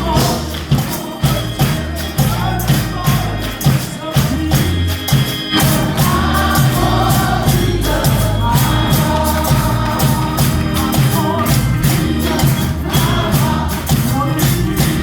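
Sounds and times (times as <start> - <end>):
bass: 0.0 - 15.0
choir singing gospel: 0.0 - 15.0
steady percussion beat: 0.0 - 15.0.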